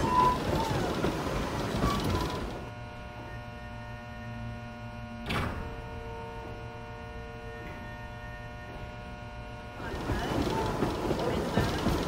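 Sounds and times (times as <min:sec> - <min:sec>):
electric locomotive hum: 0:00.0 - 0:12.0.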